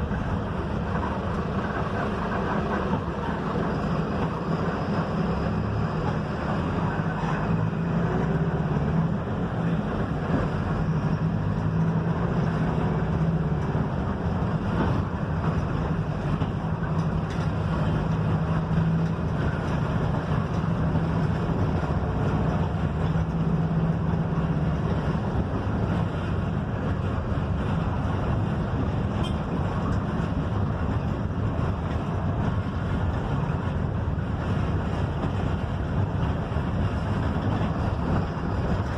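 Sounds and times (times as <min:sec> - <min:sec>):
bus diesel engine running: 0:00.0 - 0:38.9
road and tyre noise: 0:00.0 - 0:38.9.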